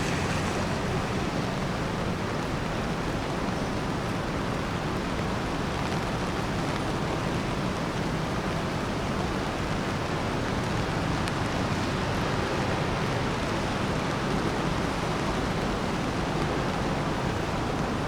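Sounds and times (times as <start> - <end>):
low traffic rumble: 0.0 - 18.0
rain hissing on street: 0.0 - 18.0.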